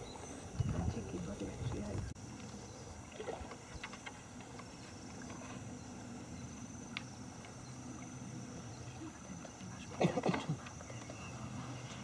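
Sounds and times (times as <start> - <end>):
low background haze: 0.0 - 12.0
steady high-pitched hum: 0.0 - 12.0.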